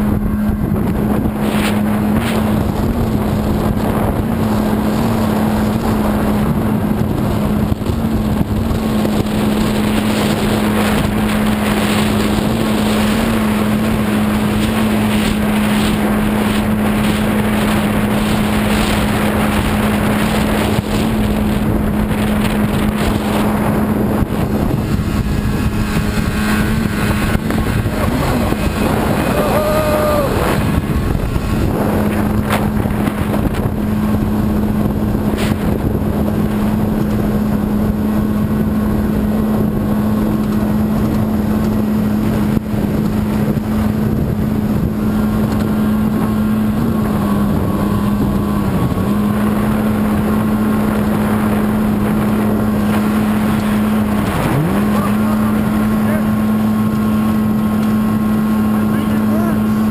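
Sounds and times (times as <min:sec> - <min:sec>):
boat engine running: 0:00.0 - 0:59.9
wind and water rushing: 0:00.0 - 0:59.9.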